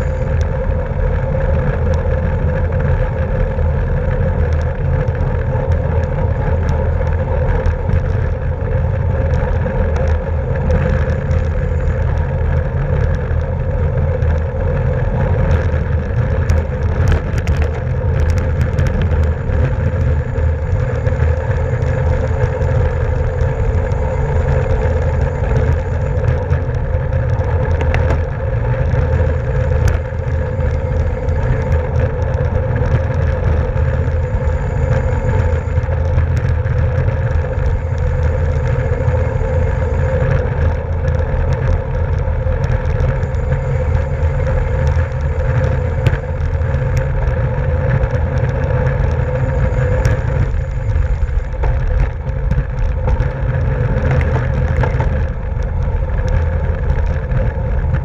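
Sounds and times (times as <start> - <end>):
bicycle tyres and drivetrain hum: 0.0 - 58.0
wind buffeting microphone: 0.0 - 58.0.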